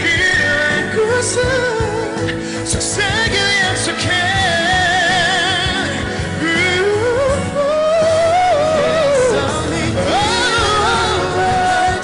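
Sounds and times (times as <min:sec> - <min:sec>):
band playing pop ballad: 0:00.0 - 0:12.0.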